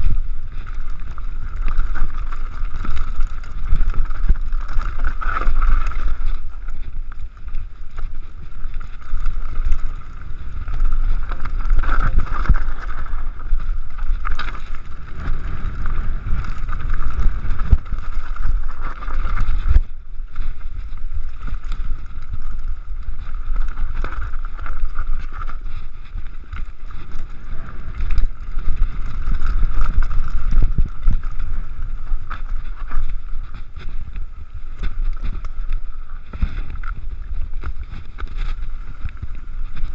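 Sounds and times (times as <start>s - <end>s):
mountain bike rattling over rocks: 0.0s - 39.9s
wind buffeting microphone: 0.0s - 39.9s.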